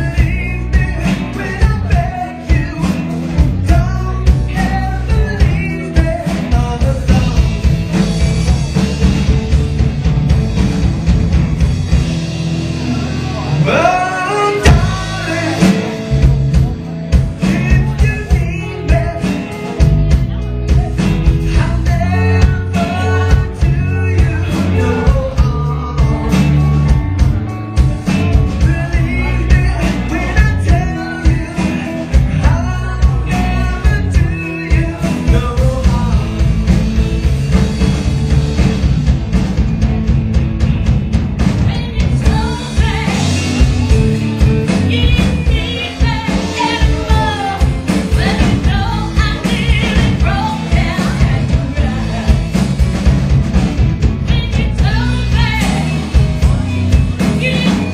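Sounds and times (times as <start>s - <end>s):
person singing: 0.0s - 8.1s, 12.8s - 36.8s, 41.6s - 52.8s, 54.2s - 57.9s
rock band playing: 0.0s - 57.9s.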